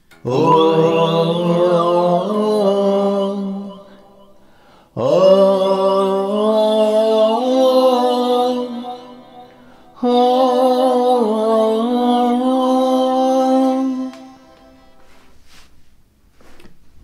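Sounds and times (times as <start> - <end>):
man singing through vocal effects: 0.2 - 15.0.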